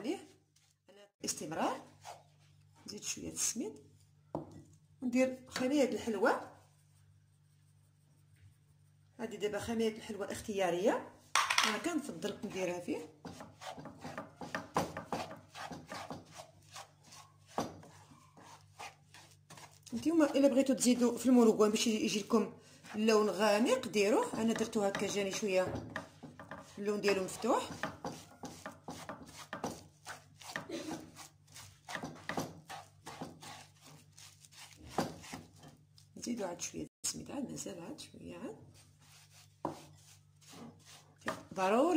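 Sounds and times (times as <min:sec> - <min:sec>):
wooden spoon scraping a pan: 0:00.0 - 0:04.6, 0:05.5 - 0:36.4, 0:38.5 - 0:41.9.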